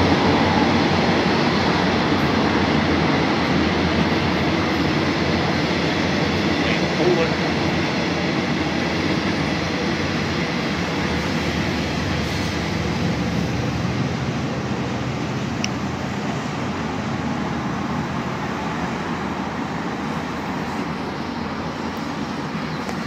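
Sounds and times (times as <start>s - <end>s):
distant train rumbling past: 0.0s - 23.0s.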